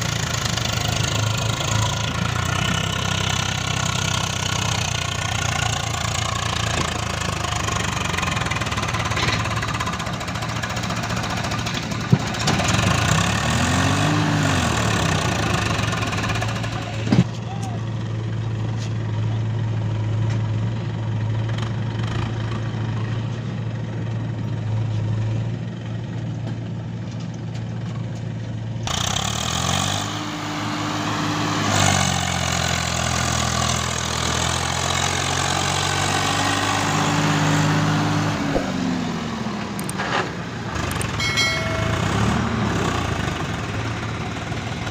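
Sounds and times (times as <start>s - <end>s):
tractor diesel engine revving: 0.0s - 23.0s, 28.8s - 44.9s.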